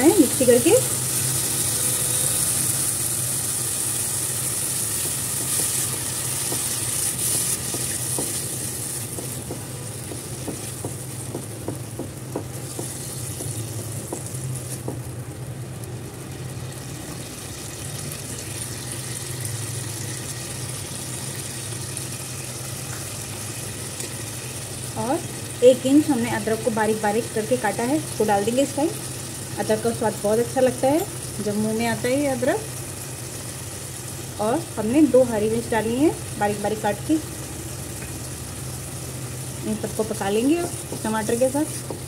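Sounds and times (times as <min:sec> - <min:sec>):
tomato puree sizzling in hot oil: 0:00.0 - 0:42.0.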